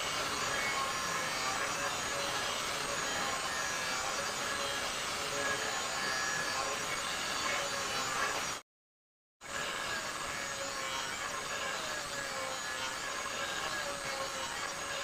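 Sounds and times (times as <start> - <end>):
angle grinder grinding steel: 0.0 - 8.6, 9.4 - 15.0.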